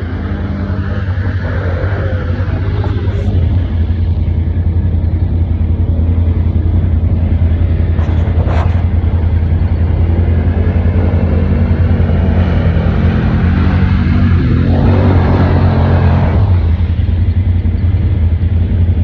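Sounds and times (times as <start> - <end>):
higher-pitched engine sweep: 0.0 - 19.0
vehicle engine idling: 0.0 - 19.0.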